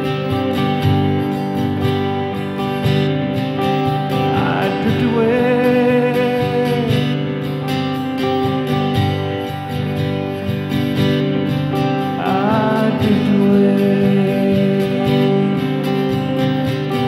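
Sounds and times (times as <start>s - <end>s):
acoustic guitar strumming: 0.0s - 17.0s
electric guitar playing: 0.0s - 17.0s.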